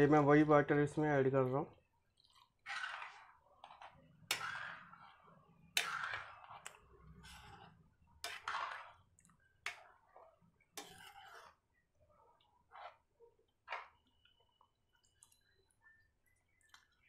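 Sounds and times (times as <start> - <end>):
metal spoon stirring gravy in pan: 0.2 - 17.0.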